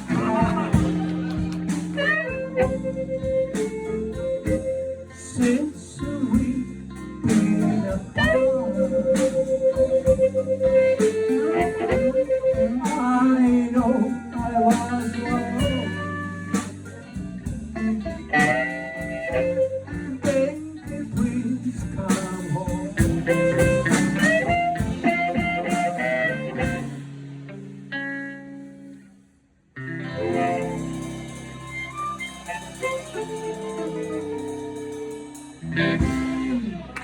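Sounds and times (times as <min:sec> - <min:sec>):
bass line: 0:00.0 - 0:27.9, 0:29.8 - 0:37.0
blues guitar lead: 0:00.0 - 0:29.1, 0:29.8 - 0:37.0.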